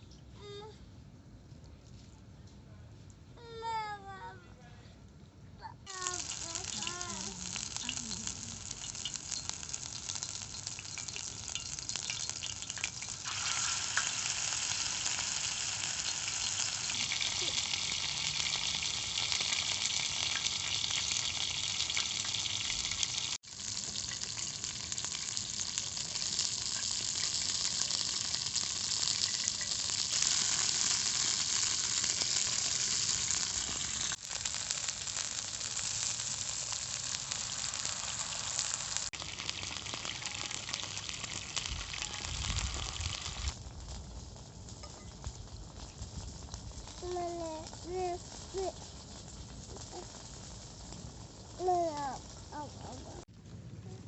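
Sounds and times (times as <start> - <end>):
meat sizzling in a pan: 5.9 - 53.2.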